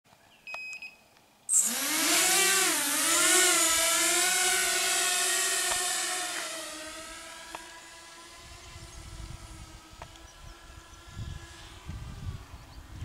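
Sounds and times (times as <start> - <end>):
drone propellers buzzing whine: 1.5 - 13.0.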